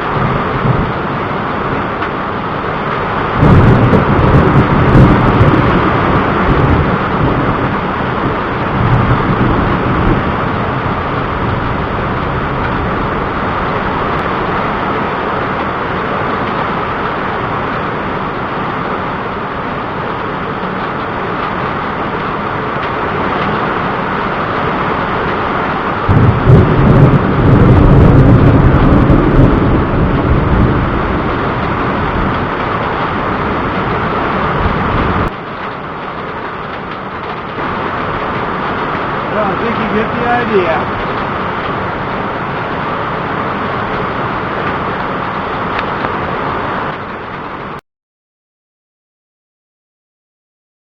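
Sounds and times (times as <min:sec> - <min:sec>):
steady rain: 0:00.0 - 0:47.8
thunder rumbling: 0:00.0 - 0:47.8.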